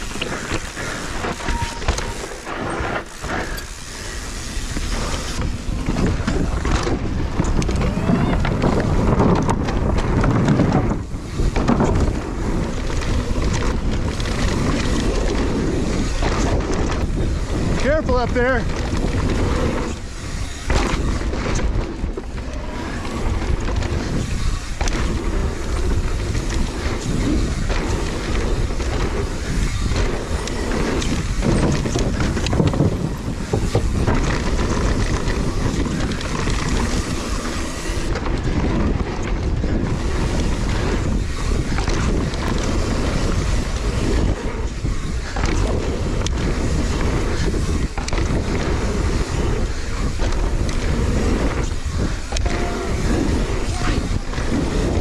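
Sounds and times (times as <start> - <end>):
bike knocking and rattling: 0.0 - 55.0
tyres rolling over dirt: 0.0 - 55.0
wind buffeting microphone: 0.0 - 55.0.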